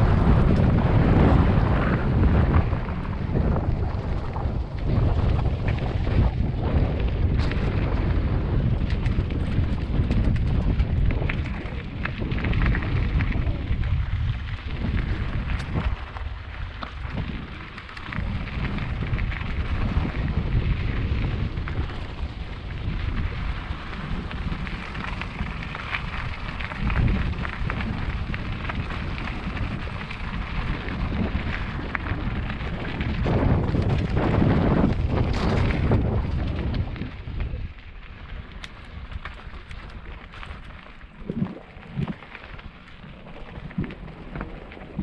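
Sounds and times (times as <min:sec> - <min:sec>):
bike rattling over stones: 0:00.0 - 0:45.0
tyres crackling on gravel: 0:00.0 - 0:45.0
wind buffeting microphone: 0:00.0 - 0:45.0.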